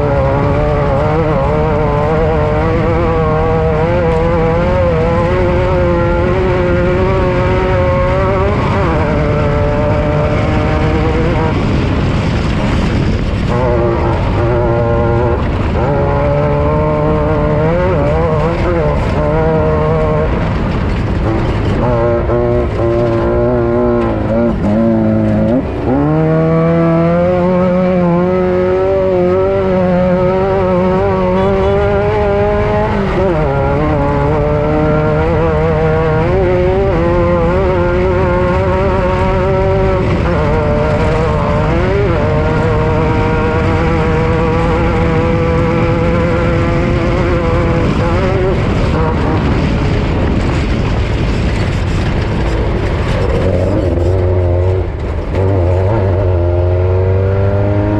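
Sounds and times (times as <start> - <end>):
race engine revving: 0.0 - 57.9
tyre and chassis rush: 0.0 - 57.9.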